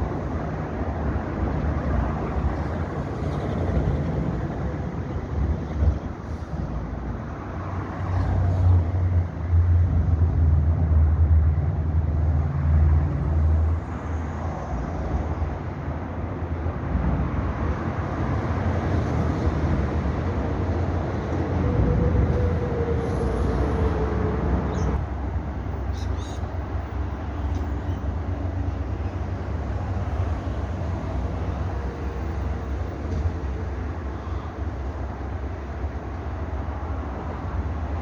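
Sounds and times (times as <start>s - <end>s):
outdoor rumble and noise: 0.0s - 38.0s.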